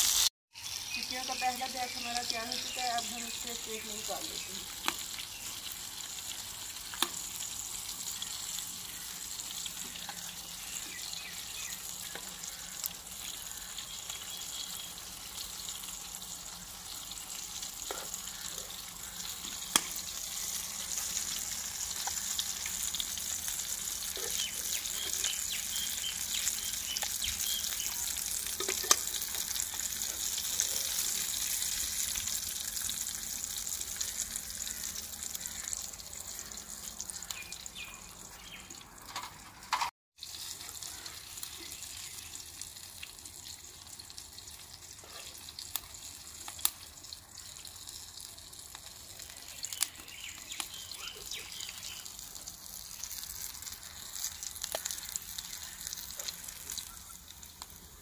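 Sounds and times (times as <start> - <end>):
patties sizzling in hot oil: 0.0 - 58.0.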